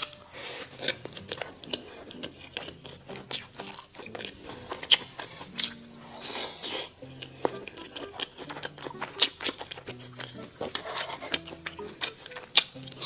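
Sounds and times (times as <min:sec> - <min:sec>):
crunching bites and chewing: 0:00.0 - 0:13.0.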